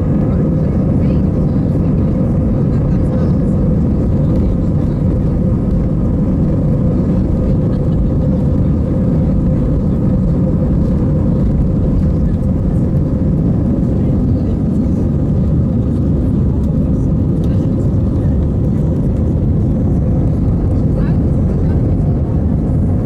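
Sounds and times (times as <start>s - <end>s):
jet cabin rumble: 0.0s - 23.0s.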